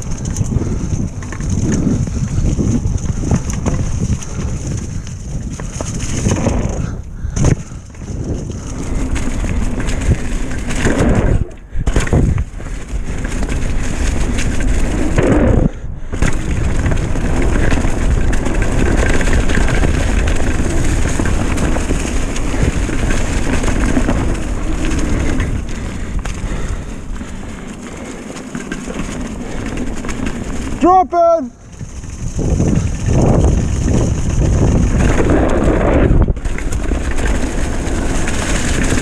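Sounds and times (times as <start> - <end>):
bike tyres rumbling over dirt: 0.0 - 39.0.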